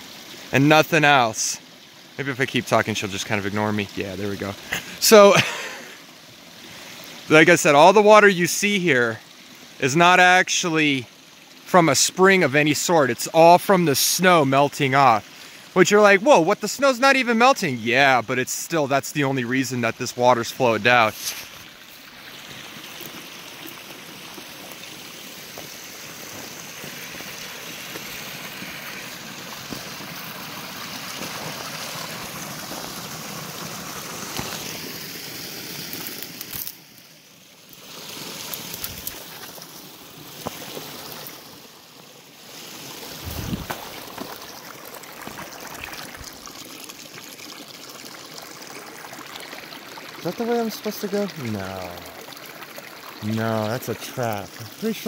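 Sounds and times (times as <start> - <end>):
creek water rushing: 0.0 - 55.0.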